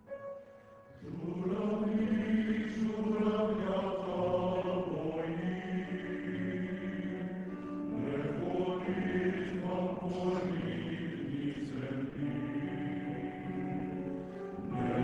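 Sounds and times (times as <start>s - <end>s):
male choir singing: 1.0s - 15.0s.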